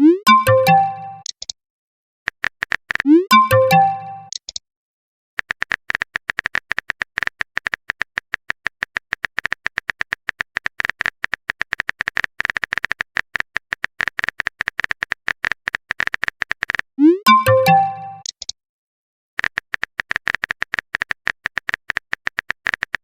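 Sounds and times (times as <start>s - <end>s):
keyboard typing clicks: 0.0s - 1.6s, 2.4s - 4.6s, 5.4s - 18.6s, 19.4s - 23.0s.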